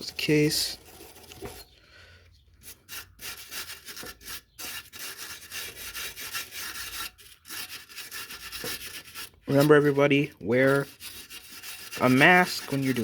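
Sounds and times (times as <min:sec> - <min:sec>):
scraping and rubbing strokes: 0:00.0 - 0:01.8, 0:02.5 - 0:13.0.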